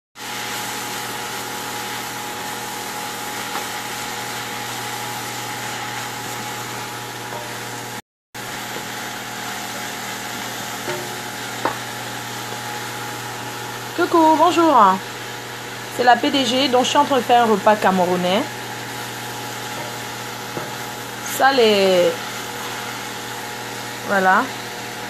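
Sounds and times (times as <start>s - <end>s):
leaves sizzling in oil: 0.2s - 25.0s.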